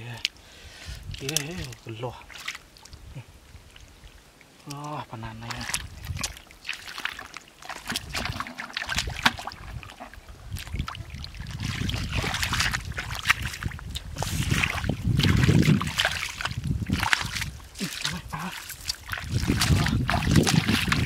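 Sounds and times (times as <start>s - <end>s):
sloshing through muddy water: 1.0s - 21.0s.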